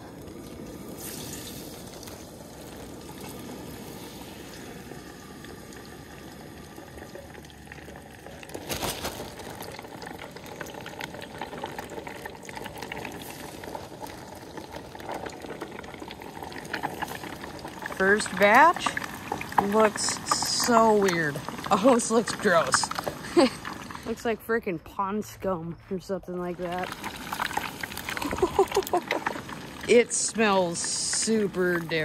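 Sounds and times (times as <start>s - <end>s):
fish crackling frying in oil: 0.0s - 24.3s, 26.5s - 32.0s
hot oil hissing and bubbling: 0.0s - 24.4s, 26.5s - 32.0s.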